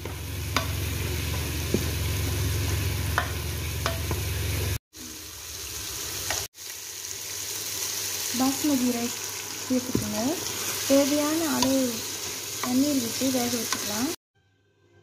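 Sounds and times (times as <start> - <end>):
prawns sizzling in a pot: 0.0 - 14.2.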